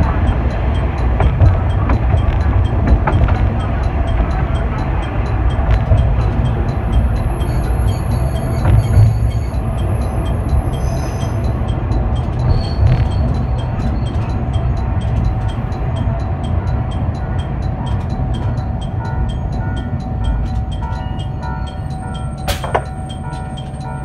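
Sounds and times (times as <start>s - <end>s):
brake squeals: 0.0s - 24.0s
diesel railcar rumble: 0.0s - 24.0s
fast even ticking: 0.0s - 24.0s.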